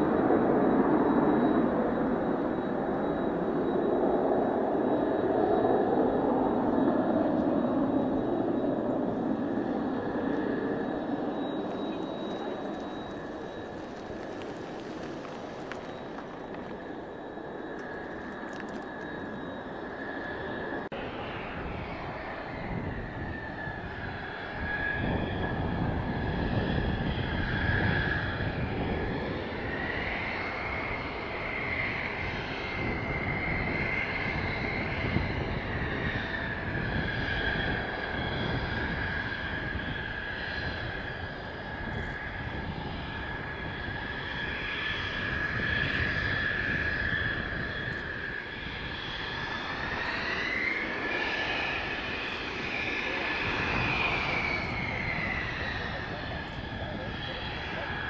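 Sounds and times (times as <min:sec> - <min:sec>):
jet engine whine and rumble: 0:00.0 - 0:58.0.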